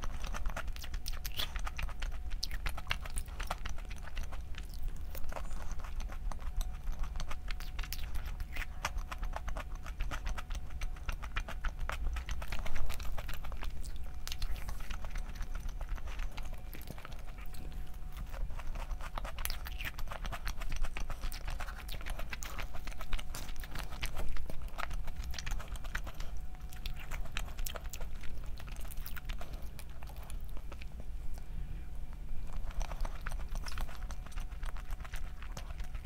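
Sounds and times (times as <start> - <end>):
person chewing and crunching food: 0.0 - 31.5, 32.1 - 36.0.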